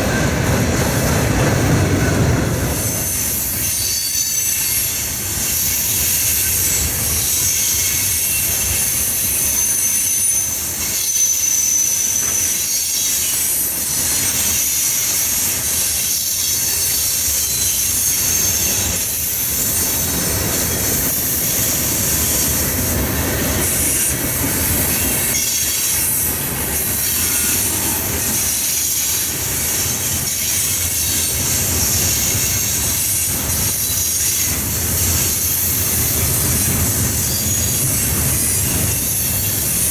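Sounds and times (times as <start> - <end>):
train cars rumbling on rails: 0.0 - 39.9
high-pitched wheel squeals: 2.0 - 22.7, 24.7 - 39.9.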